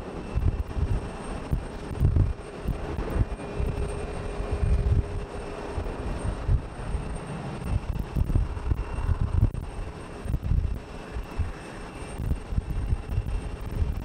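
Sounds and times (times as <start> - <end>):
jet engines roaring at takeoff: 0.0 - 14.0.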